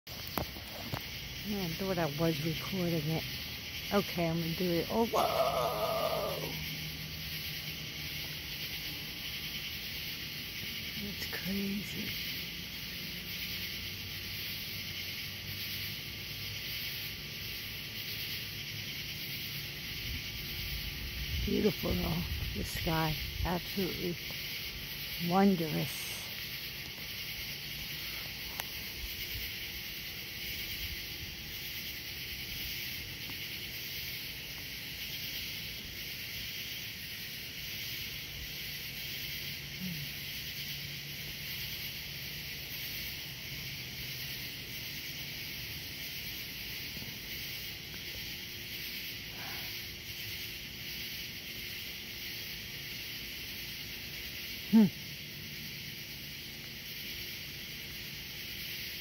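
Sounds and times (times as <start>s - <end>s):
steady outdoor hiss: 0.1s - 59.0s.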